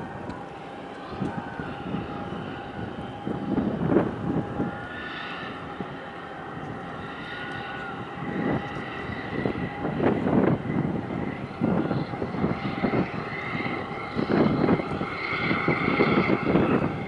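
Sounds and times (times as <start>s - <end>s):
engine drone with whine: 0.0s - 17.0s
rushes of noise: 0.0s - 17.0s.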